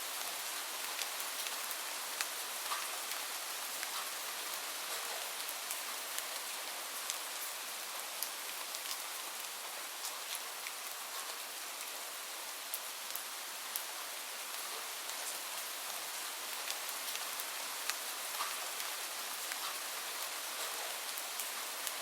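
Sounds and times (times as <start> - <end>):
light rain falling: 0.0 - 22.0.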